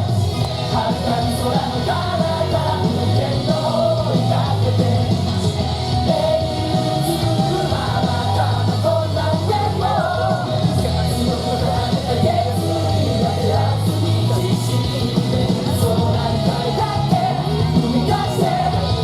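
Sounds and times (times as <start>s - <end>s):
rock song with singing: 0.0s - 19.0s
strong steady bass: 0.0s - 19.0s.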